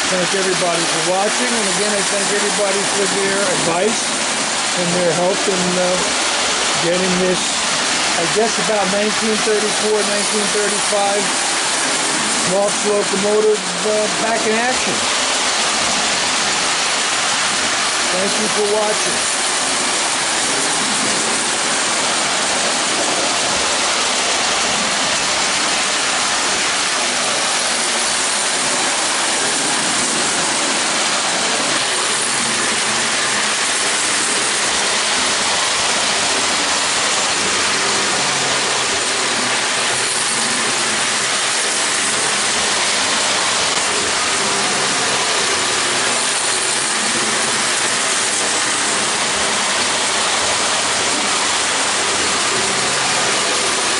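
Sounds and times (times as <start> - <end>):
toy electric train running on track: 0.0 - 53.9.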